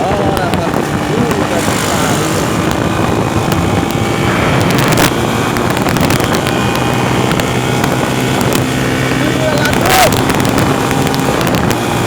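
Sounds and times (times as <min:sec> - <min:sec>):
vehicle engine running: 0:00.0 - 0:12.0
wind noise on microphone: 0:00.0 - 0:12.0.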